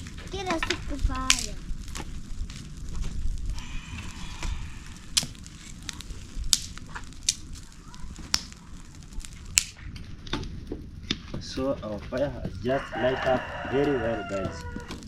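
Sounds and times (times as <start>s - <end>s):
low rumble: 0.0s - 13.8s
wood fire crackling: 0.0s - 15.0s.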